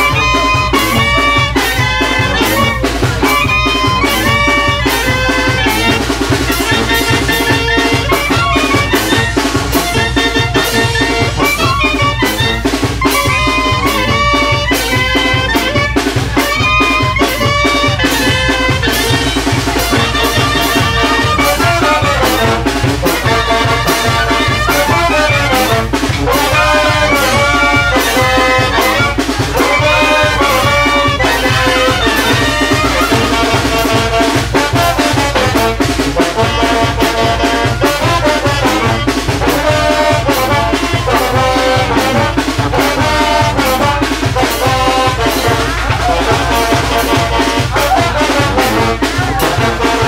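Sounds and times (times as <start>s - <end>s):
brass band playing: 0.0s - 50.0s
steady drum beat: 0.0s - 50.0s.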